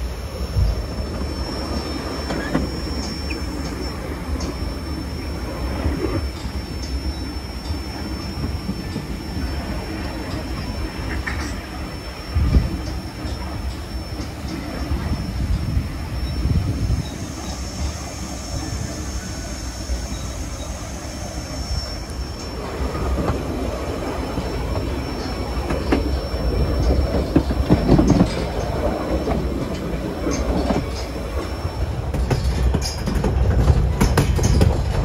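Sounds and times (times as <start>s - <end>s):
high steady wheel squeal: 0.0s - 35.0s
train rumbling along track: 0.0s - 35.0s.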